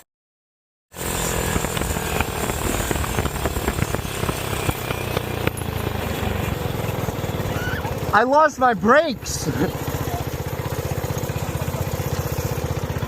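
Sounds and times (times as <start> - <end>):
go-kart engine running: 0.9 - 13.0
noisy rush: 1.0 - 13.0.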